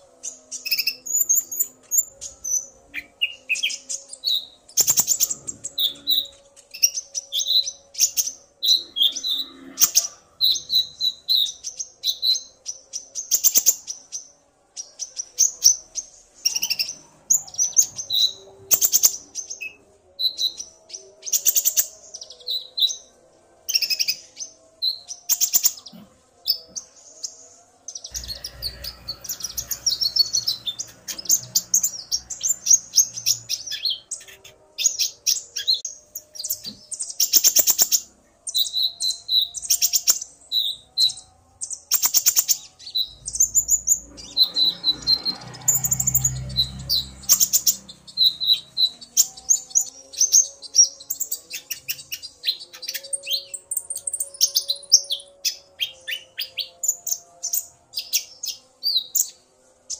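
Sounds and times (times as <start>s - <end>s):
sunbirds chirping and trilling: 0.0s - 59.9s.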